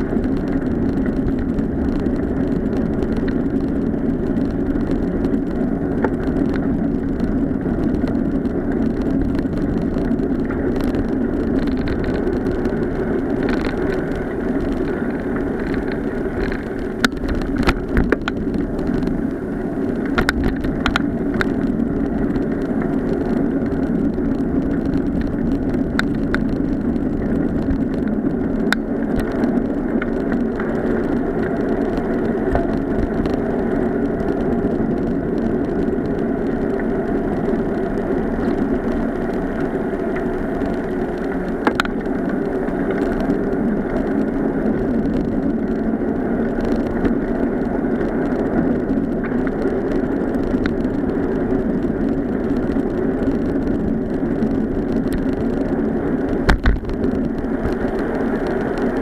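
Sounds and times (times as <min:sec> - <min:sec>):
bicycle knocking and rattling: 0:00.0 - 0:59.0
bicycle tyre and wind rumble: 0:00.0 - 0:59.0.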